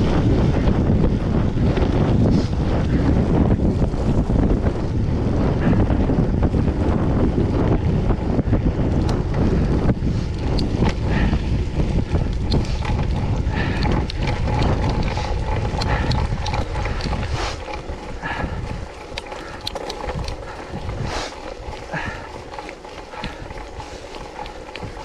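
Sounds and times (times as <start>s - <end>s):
bike rattling and clicking: 0.0s - 25.0s
wind buffeting microphone: 0.0s - 25.0s.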